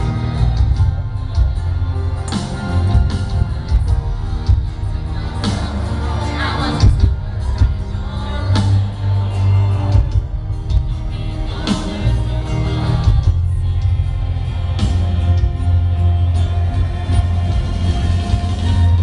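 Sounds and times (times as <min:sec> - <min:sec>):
live pop music: 0:00.0 - 0:19.0
person singing: 0:00.0 - 0:19.0.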